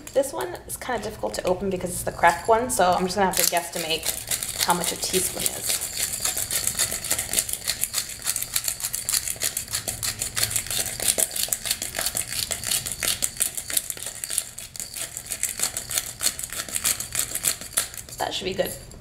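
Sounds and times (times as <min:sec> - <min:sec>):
pepper grinder clicking and rattling: 0:02.2 - 0:18.3.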